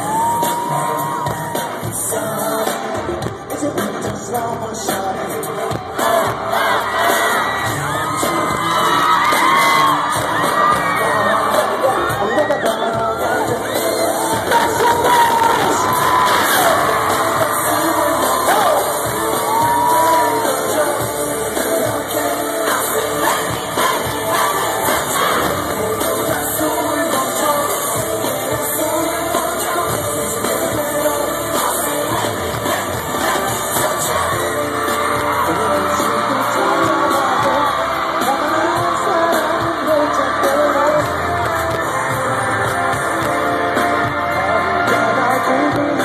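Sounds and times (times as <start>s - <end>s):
crowd shouting and cheering: 0.0s - 46.0s
live pop song with vocals: 0.0s - 46.0s.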